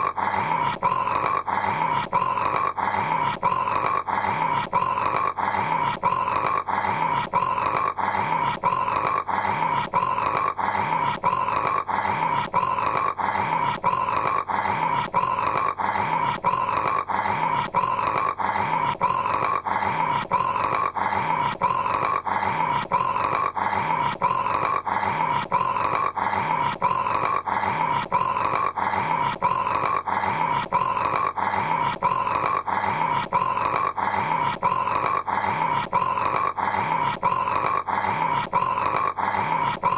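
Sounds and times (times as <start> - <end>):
person snoring: 0.0 - 39.9.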